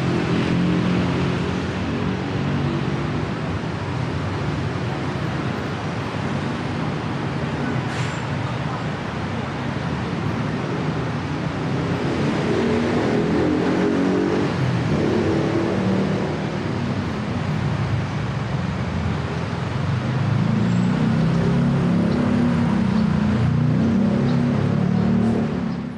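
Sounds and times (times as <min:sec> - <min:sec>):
city traffic rumble: 0:00.0 - 0:25.9.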